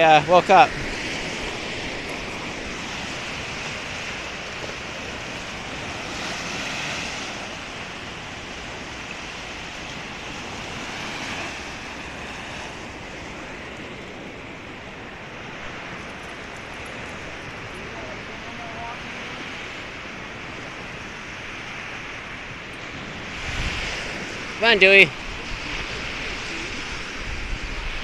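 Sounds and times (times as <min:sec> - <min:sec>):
waves washing on shore: 0:00.0 - 0:28.0.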